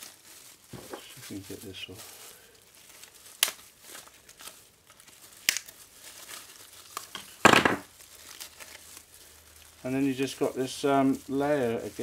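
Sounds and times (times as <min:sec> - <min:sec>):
foil pouch crinkling: 0:00.0 - 0:12.0
foil tearing: 0:00.0 - 0:12.0.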